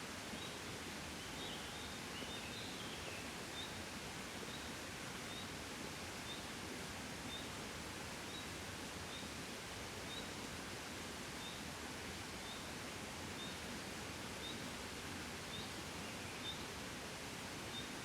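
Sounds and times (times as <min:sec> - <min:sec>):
gentle wind hiss: 0:00.0 - 0:18.0.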